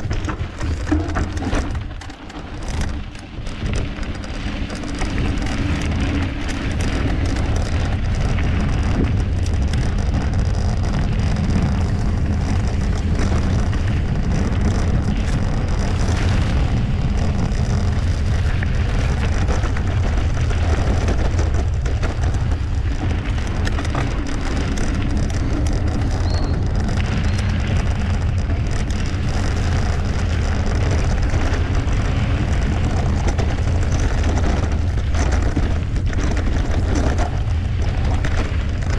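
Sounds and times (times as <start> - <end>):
bike rattles and knocks: 0.0 - 38.9
bike tyre rumble on dirt: 0.0 - 38.9
wind buffeting microphone: 0.0 - 38.9.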